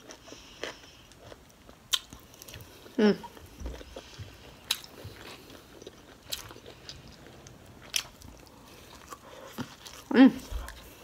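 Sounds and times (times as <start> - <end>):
chewing and wet mouth sounds: 0.0 - 11.0.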